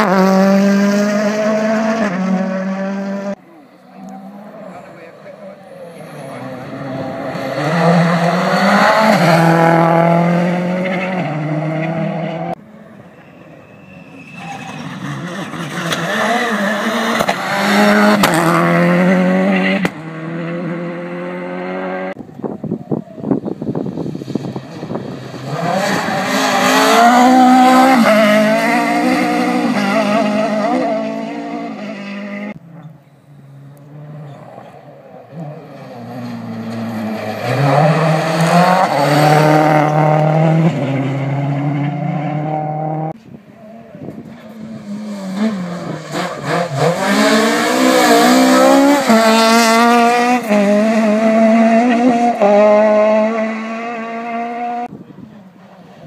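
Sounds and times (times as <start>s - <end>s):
rally car engines revving: 0.0s - 12.6s, 13.2s - 22.2s, 23.2s - 56.0s.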